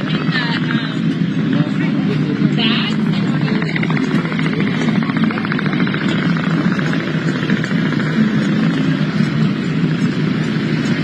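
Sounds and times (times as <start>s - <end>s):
engine running with pulsing: 0.0s - 11.0s.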